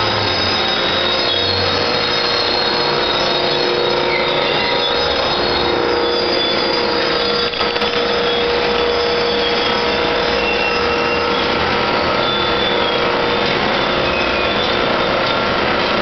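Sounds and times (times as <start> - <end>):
tortilla machine running: 0.0 - 16.0.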